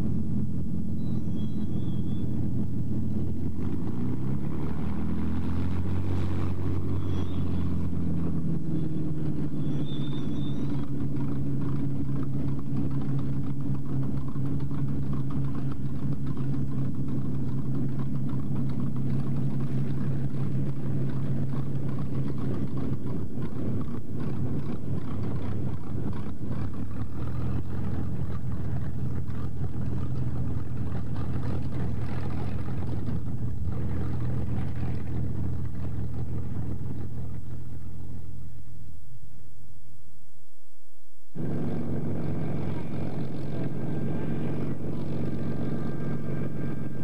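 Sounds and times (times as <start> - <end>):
propeller aircraft engine running: 0.0 - 39.4, 41.3 - 47.0.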